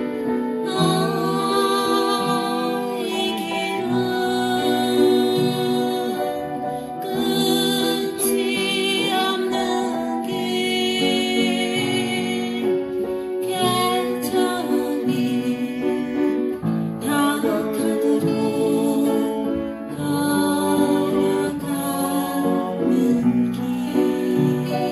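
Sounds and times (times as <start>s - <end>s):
person singing: 0.0s - 24.9s
upright piano playing slow melody: 0.0s - 24.9s.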